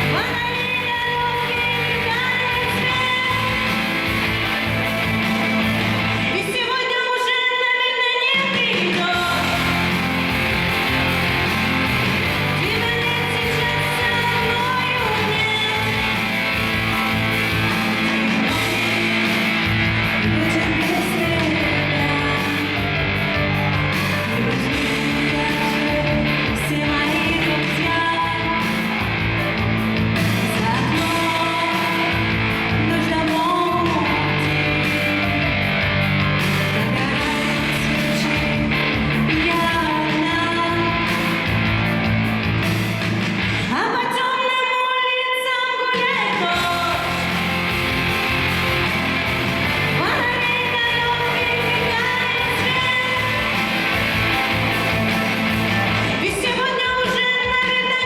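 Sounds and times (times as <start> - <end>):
instrumental accompaniment with beat: 0.0 - 6.4, 8.8 - 43.7, 46.4 - 58.0
woman singing pop song: 0.0 - 41.6, 43.6 - 48.1, 49.7 - 58.0.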